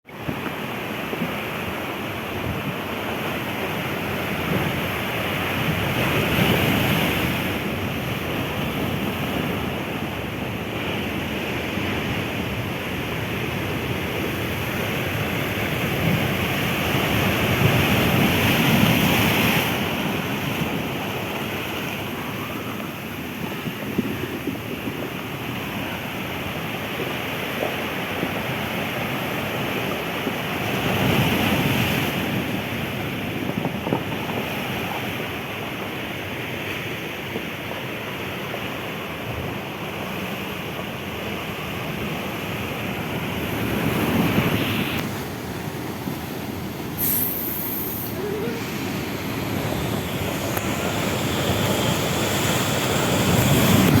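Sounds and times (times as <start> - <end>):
ocean waves breaking: 0.1 - 54.0.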